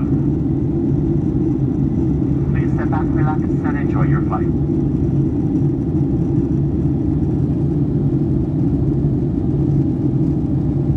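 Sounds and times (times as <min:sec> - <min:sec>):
airplane cabin engine rumble: 0:00.0 - 0:10.9
constant low hum: 0:00.0 - 0:10.9.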